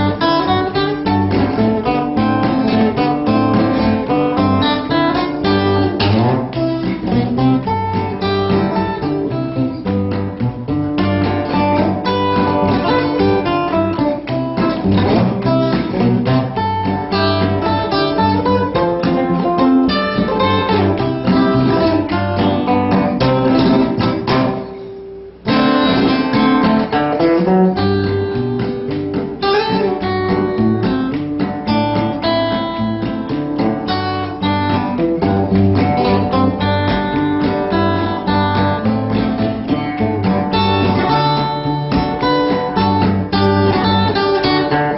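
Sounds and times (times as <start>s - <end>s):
acoustic guitar music: 0.0s - 44.9s.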